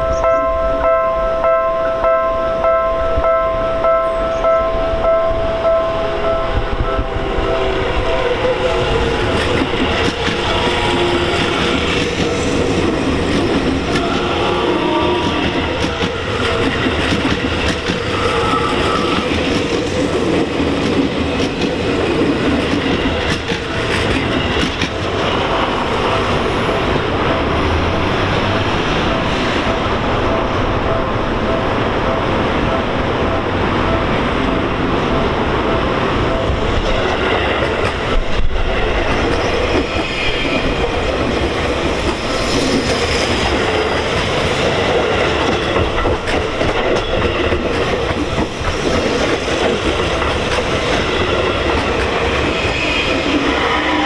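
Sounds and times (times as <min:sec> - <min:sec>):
crossing warning bell ringing: 0:00.0 - 0:54.0
electric train passing: 0:00.0 - 0:54.0.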